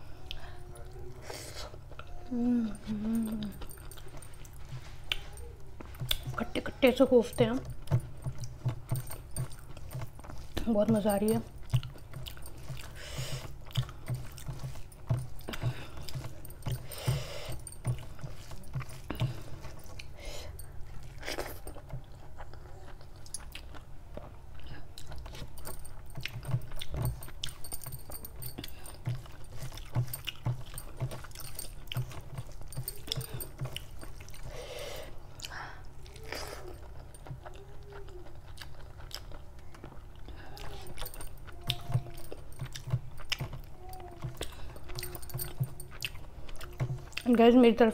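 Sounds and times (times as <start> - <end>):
chewing and mouth sounds: 0.2 - 47.9
fingers mixing food on steel plate: 2.8 - 23.9, 24.5 - 47.9.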